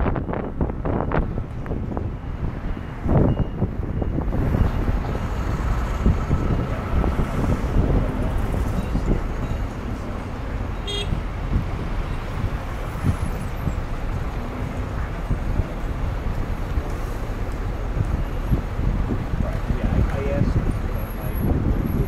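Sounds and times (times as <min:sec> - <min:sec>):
road and traffic noise: 0:00.0 - 0:22.0
wind buffeting microphone: 0:00.0 - 0:22.0.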